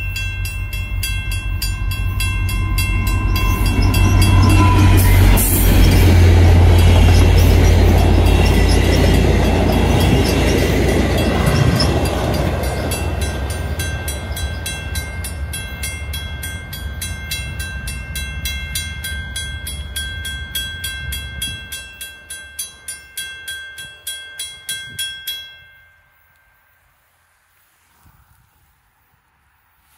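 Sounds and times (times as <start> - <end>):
passenger train rumbling past: 0.0 - 25.3
level-crossing bell ringing: 0.0 - 26.8.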